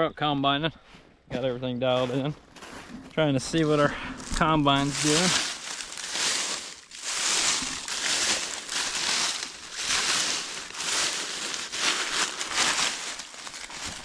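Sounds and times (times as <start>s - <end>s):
footsteps crunching dry corn stalks: 1.9s - 14.0s.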